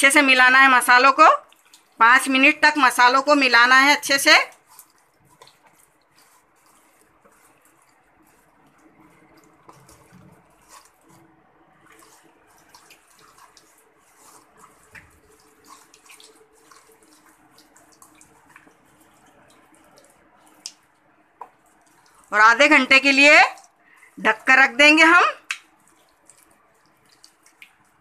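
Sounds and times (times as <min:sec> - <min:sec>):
hands squelching wet marinade: 0:00.1 - 0:28.0.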